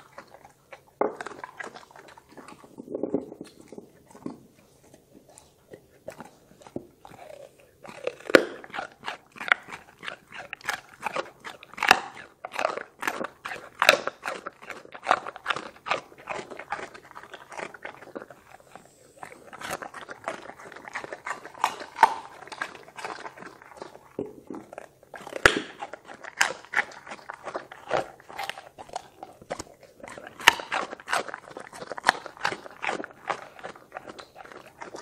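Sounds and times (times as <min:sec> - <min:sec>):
dog crunching carrot: 0:00.0 - 0:35.0.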